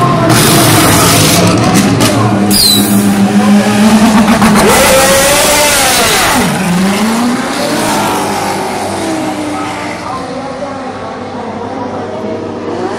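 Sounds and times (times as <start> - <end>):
race car engine revving: 0.0 - 12.9.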